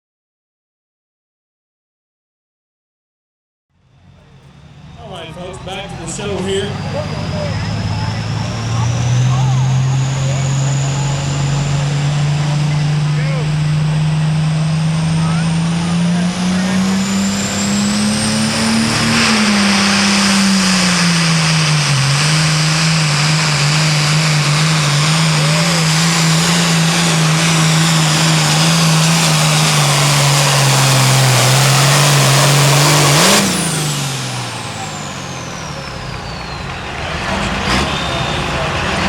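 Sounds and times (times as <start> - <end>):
tractor diesel engine under load: 3.8 - 39.0
turbocharger whine: 3.8 - 39.0.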